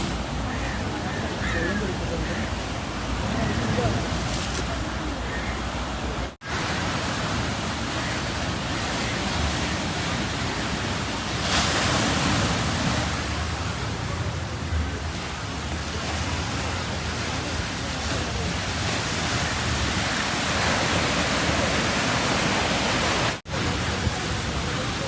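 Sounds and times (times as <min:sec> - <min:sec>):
sea surf rushing: 0:00.0 - 0:25.0.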